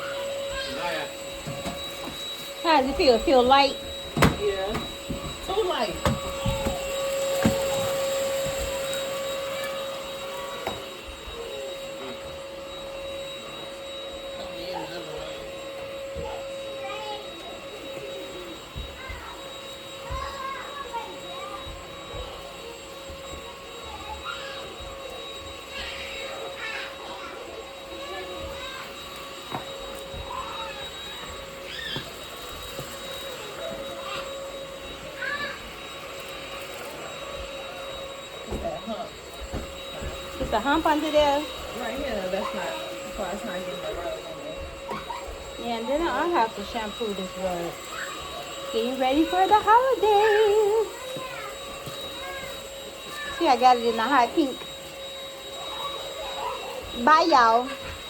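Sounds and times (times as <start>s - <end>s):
stick vacuum running: 0.0s - 58.0s.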